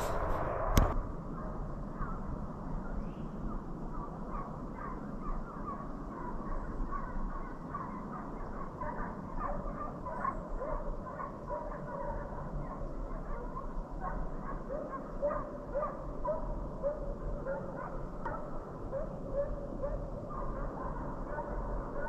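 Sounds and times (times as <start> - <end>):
hounds barking and baying: 4.0 - 22.0.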